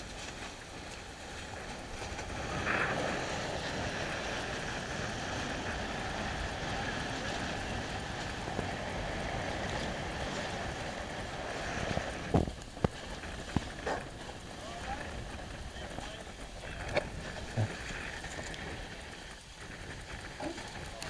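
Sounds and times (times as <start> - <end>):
wind and water rushing past boat: 0.0 - 21.0.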